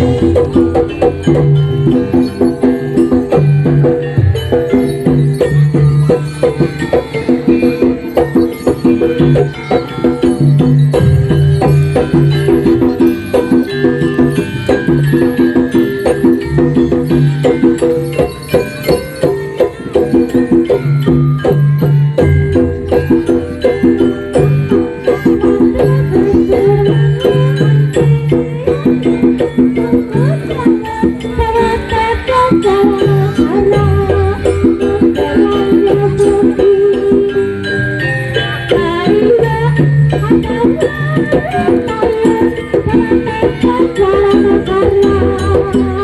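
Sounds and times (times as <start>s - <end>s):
drum strokes: 0.0s - 37.2s
tuned gongs playing: 0.0s - 37.7s.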